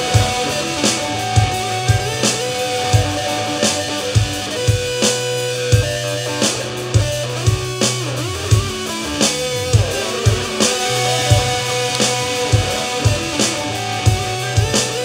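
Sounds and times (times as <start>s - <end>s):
electric guitar lead notes: 0.0s - 15.0s
low bass line: 0.0s - 15.0s
steady drum beat: 0.0s - 15.0s.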